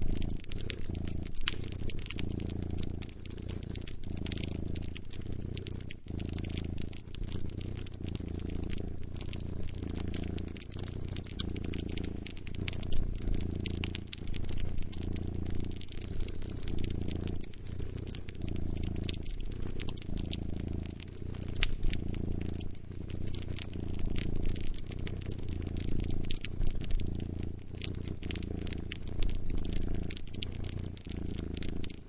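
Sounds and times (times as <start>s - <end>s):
cat purring: 0.0s - 32.0s
wood fire crackling: 0.0s - 32.0s.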